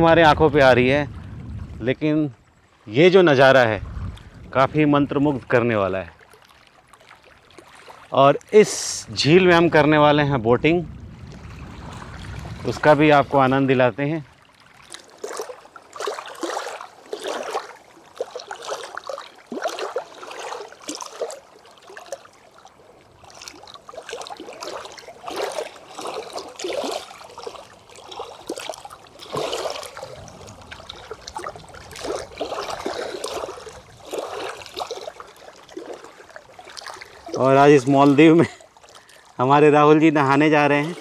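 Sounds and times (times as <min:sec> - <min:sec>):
small waves lapping on rocks: 0:00.6 - 0:10.0, 0:11.1 - 0:41.0.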